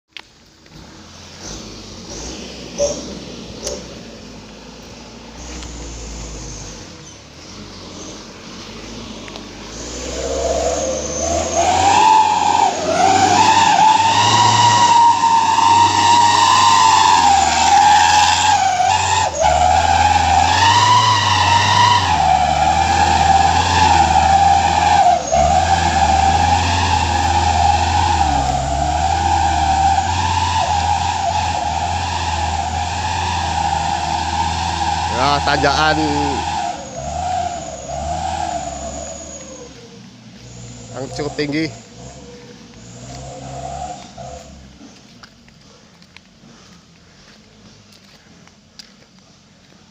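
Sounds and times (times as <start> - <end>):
vehicle engine whining: 0.1 - 49.9.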